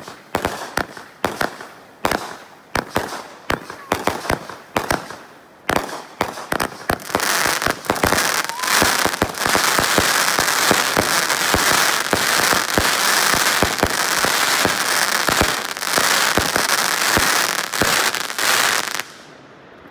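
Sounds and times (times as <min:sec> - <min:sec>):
fireworks popping and crackling: 0:00.0 - 0:19.3.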